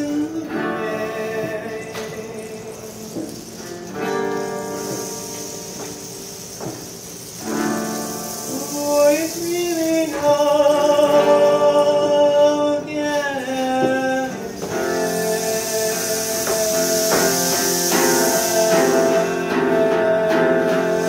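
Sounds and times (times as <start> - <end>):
acoustic guitar accompaniment: 0.0 - 21.0
long sliding held melody: 0.0 - 21.0.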